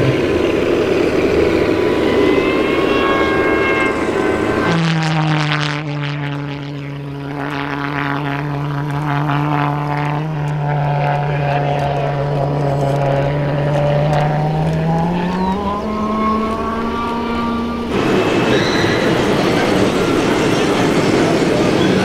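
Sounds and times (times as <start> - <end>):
model truck engine drone: 0.0 - 22.0.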